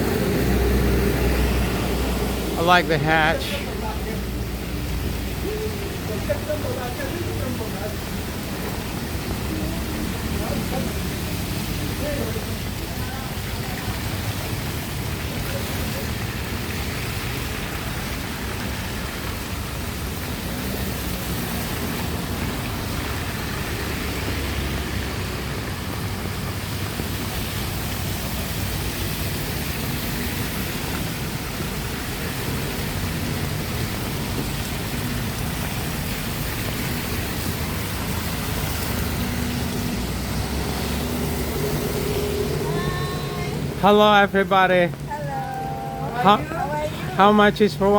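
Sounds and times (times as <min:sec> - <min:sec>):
low rumble of traffic: 0:00.0 - 0:47.9
rain falling on a street: 0:00.0 - 0:47.9.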